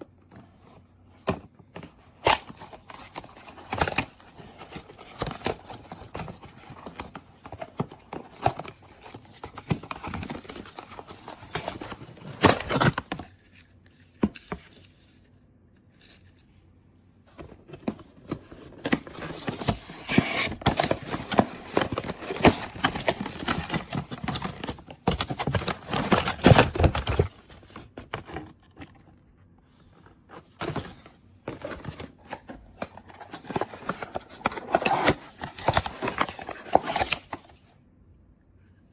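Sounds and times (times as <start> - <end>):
handling scrapes taps and crinkles: 0.2 - 16.7, 17.3 - 29.1, 29.7 - 37.6.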